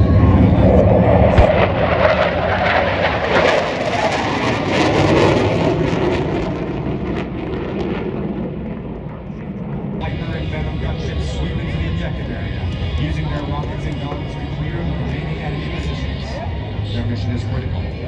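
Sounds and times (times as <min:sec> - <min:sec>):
jet fighters flying past: 0:00.0 - 0:18.0.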